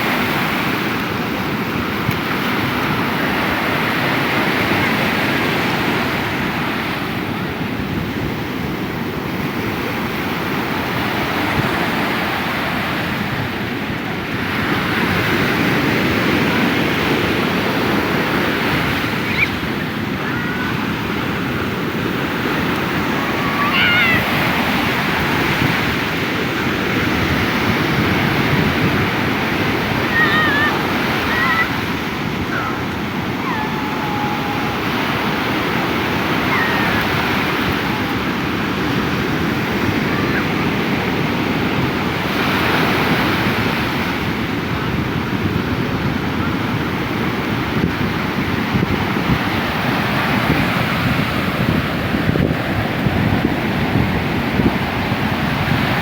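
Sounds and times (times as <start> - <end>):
sea surf breaking on beach: 0.0 - 56.0
wind buffeting microphone: 0.0 - 56.0.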